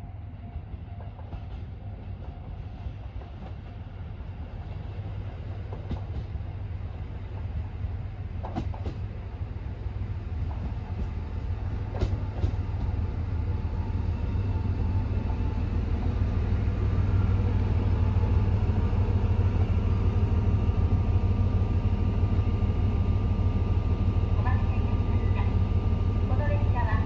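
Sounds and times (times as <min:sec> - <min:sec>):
diesel railcar engine drone: 0:00.0 - 0:27.0.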